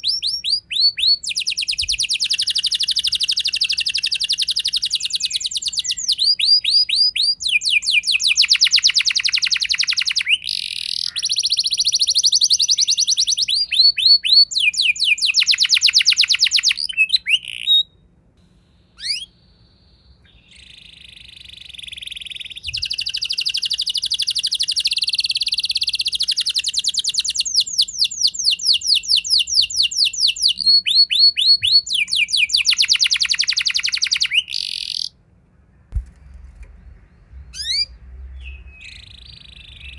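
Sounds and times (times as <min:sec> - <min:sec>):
canary singing trills: 0:00.0 - 0:18.1, 0:18.7 - 0:39.9.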